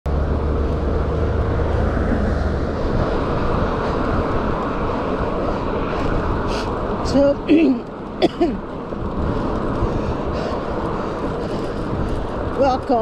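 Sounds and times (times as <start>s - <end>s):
wind and road noise rumble: 0.1s - 13.0s.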